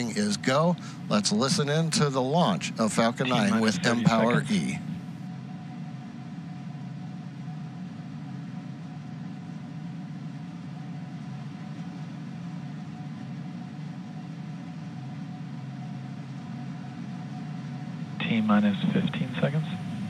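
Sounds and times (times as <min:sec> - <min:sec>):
low hum and rumble: 0:00.0 - 0:20.0.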